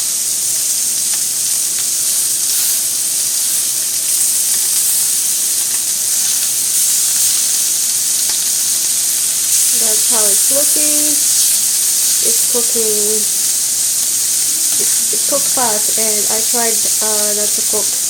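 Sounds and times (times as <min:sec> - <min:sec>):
frying pops and crackles: 0:00.0 - 0:18.0
meat and vegetables sizzling on grill: 0:00.0 - 0:18.0.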